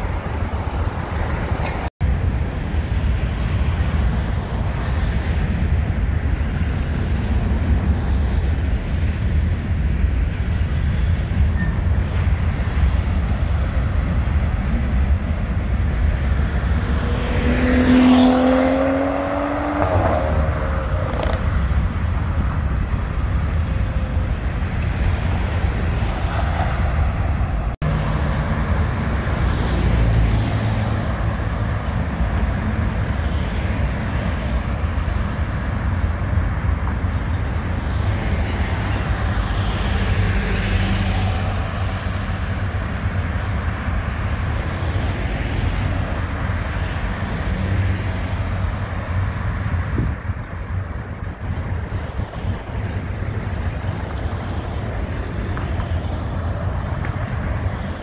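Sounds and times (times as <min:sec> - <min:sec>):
freight train passing: 0:00.0 - 0:58.0
passing engine: 0:00.0 - 0:58.0
road traffic rumble: 0:00.0 - 0:58.0.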